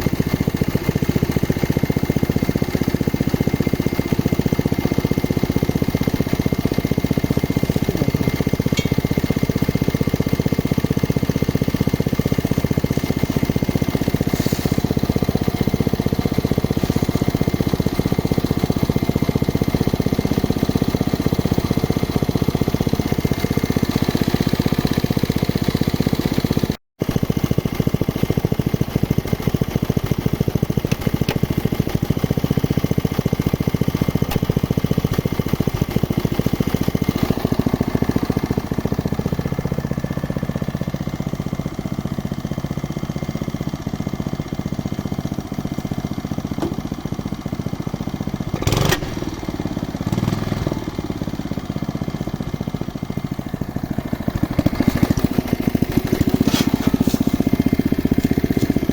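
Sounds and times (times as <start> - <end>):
drilling rig running: 0.0 - 25.4, 27.1 - 58.9.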